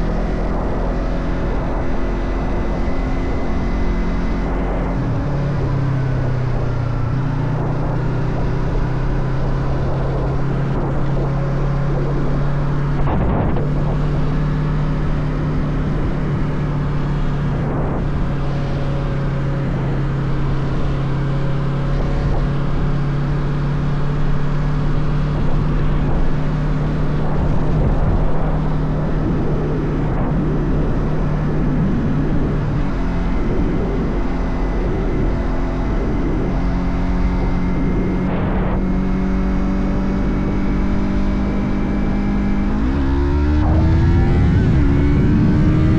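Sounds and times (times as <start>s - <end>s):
wind rushing: 0.0s - 23.2s, 24.0s - 45.9s
motorcycle engine cruising: 0.0s - 45.9s
road noise: 0.0s - 45.9s.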